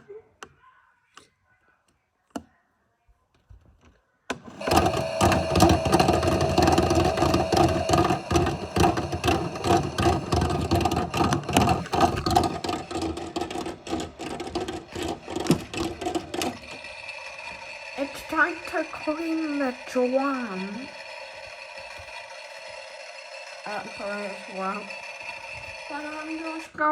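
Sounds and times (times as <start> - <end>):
electric motor rattling: 4.3 - 26.9
steady motor hum: 4.4 - 26.9.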